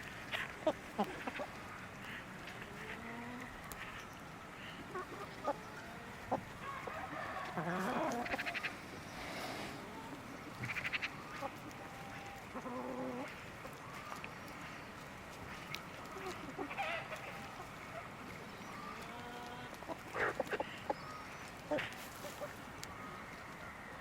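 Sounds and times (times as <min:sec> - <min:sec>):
chickens clucking: 0:00.3 - 0:04.0, 0:04.6 - 0:14.6, 0:15.5 - 0:22.7.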